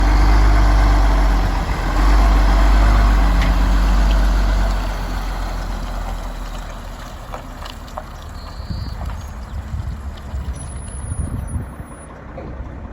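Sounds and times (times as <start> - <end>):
truck diesel engine rumbling: 0.0 - 12.9.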